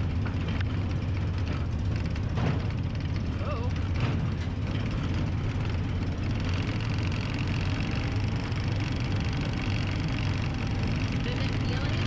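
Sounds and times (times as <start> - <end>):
utility vehicle engine rumbling: 0.0 - 12.0.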